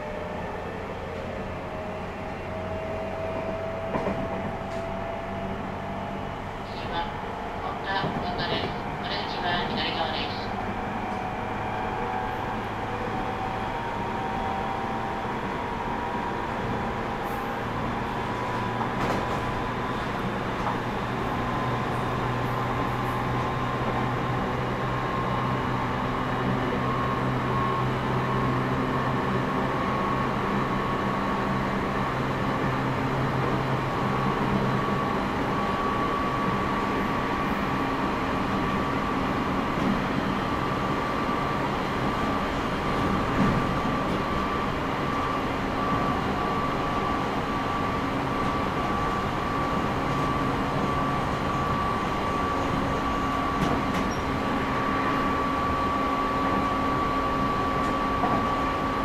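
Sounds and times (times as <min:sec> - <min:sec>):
electric train rolling rumble: 0:00.0 - 0:59.0.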